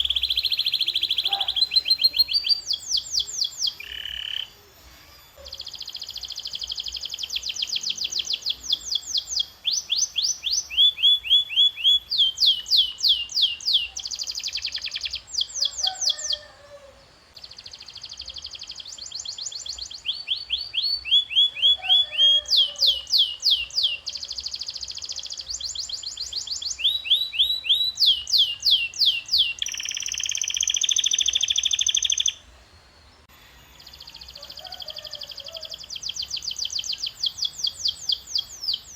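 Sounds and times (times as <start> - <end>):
canary singing: 0.0 - 32.5, 33.5 - 38.9.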